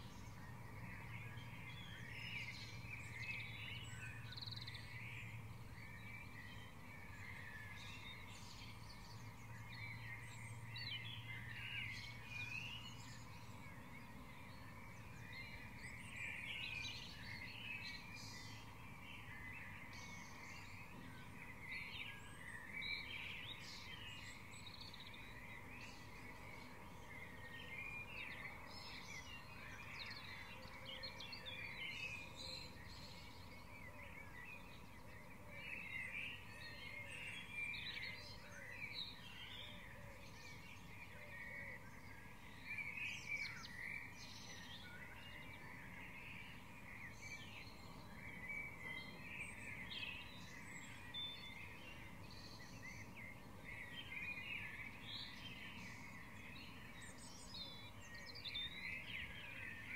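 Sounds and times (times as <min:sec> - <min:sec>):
birds singing and calling: 0:00.0 - 0:59.9.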